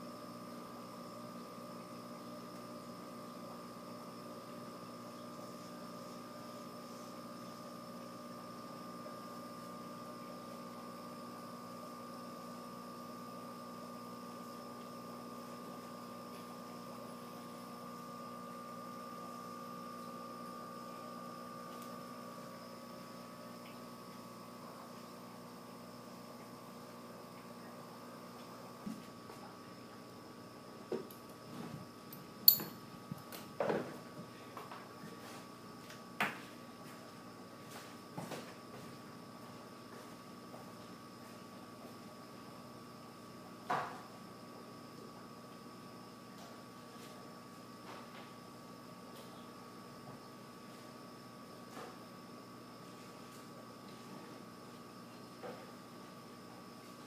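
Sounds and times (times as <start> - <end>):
machine hum with fixed tones: 0.0 - 57.0.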